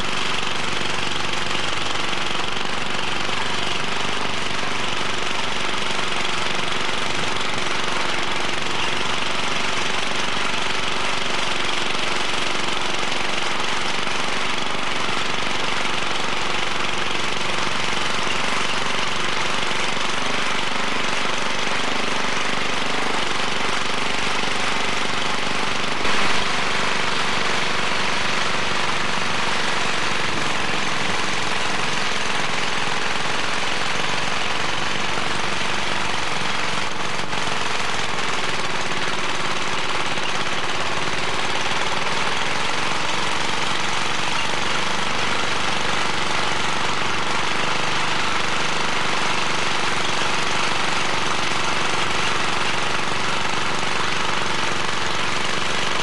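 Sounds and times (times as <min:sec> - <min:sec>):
tiller engine running: 0:00.0 - 0:56.0.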